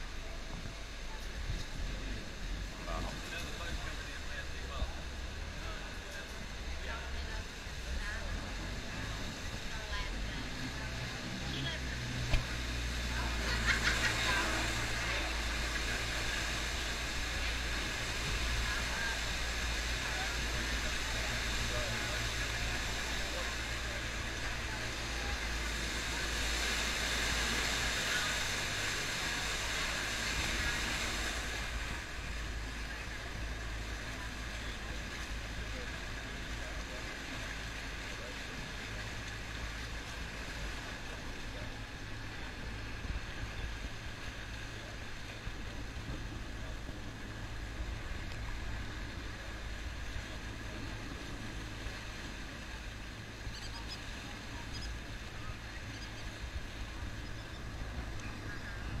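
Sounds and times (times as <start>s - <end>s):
boat motor humming: 0.0s - 59.0s
water rushing hiss: 0.0s - 59.0s
wind: 0.0s - 59.0s.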